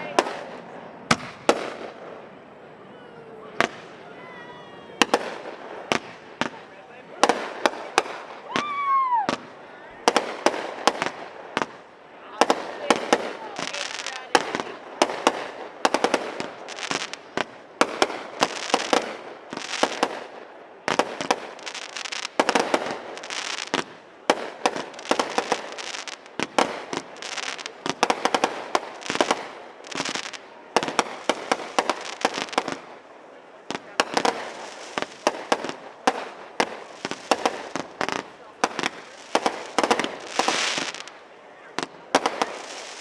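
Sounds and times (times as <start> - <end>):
fireworks bangs and pops: 0.0 - 2.5, 3.4 - 43.0
fireworks crackling: 0.0 - 43.0.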